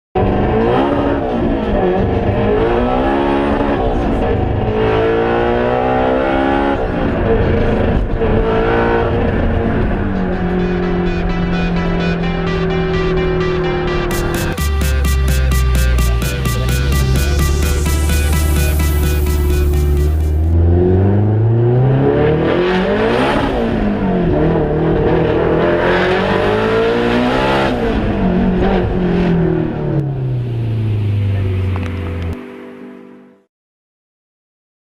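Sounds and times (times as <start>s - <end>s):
car engine revving hard: 0.2s - 31.8s.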